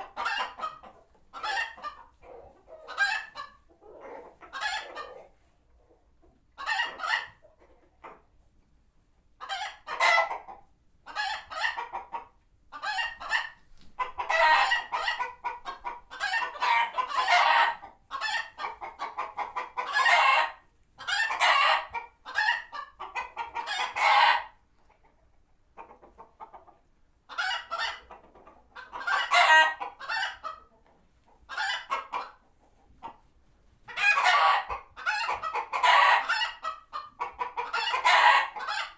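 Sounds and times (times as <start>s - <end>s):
chickens clucking alarm calls: 0.0s - 8.3s, 9.4s - 33.2s, 33.9s - 38.9s.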